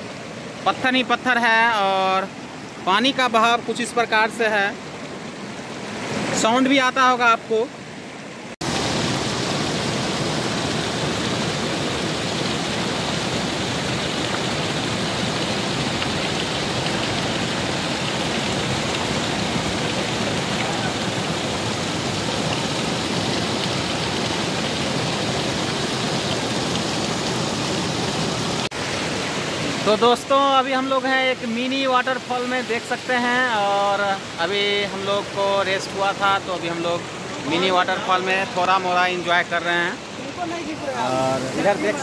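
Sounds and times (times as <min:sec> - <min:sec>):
waterfall rushing over rocks: 0:00.0 - 0:42.0.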